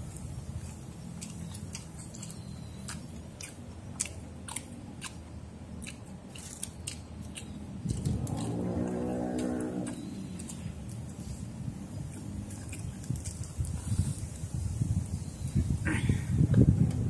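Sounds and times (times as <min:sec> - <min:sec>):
person chewing food: 0:00.0 - 0:14.5
low background rumble: 0:00.0 - 0:17.0.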